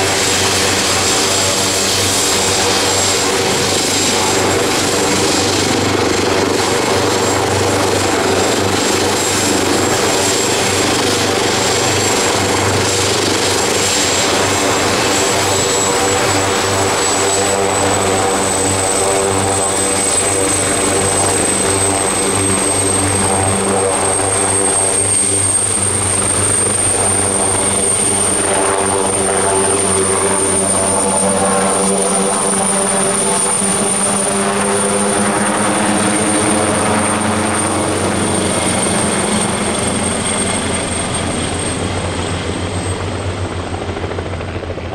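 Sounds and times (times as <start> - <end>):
helicopter rotor and engine noise: 0.0 - 44.9
high turbine whine: 0.0 - 44.9.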